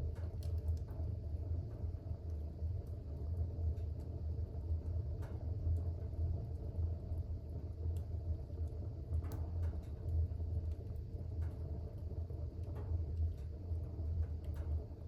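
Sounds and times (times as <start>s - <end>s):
faint fire crackles: 0.0s - 15.0s
fire rumbling in a fireplace: 0.0s - 15.0s.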